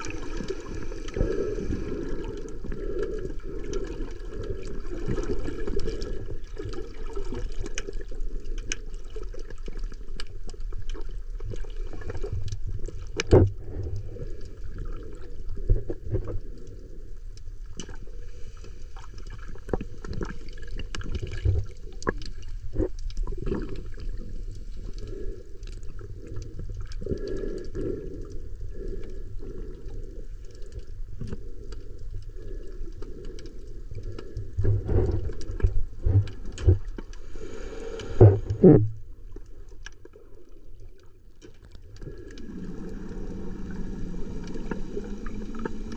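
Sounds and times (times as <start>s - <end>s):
muffled underwater water rush: 0.0s - 45.9s.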